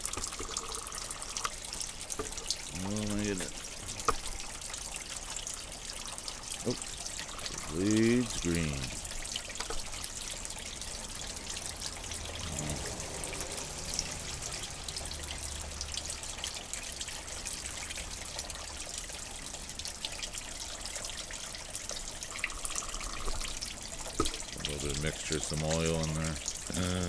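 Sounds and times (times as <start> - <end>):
coolant trickling into a container: 0.0 - 27.0.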